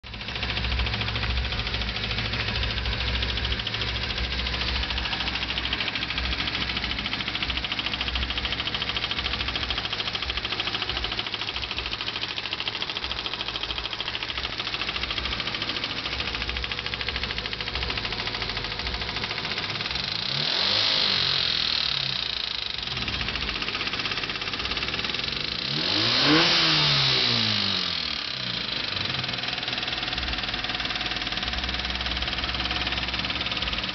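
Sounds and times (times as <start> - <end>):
car engine idling and revving: 0.0 - 33.9
engine clicking: 0.0 - 33.9.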